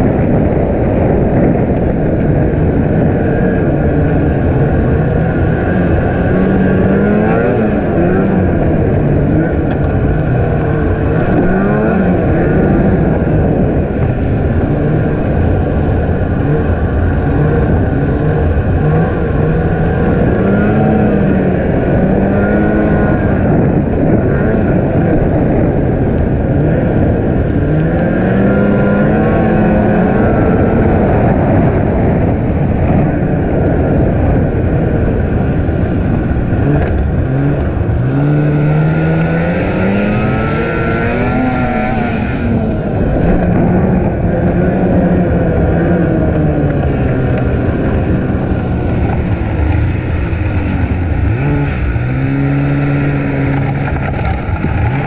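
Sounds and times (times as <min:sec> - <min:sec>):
snowmobile engine revving: 0:00.0 - 0:55.0
track running noise: 0:00.0 - 0:55.0.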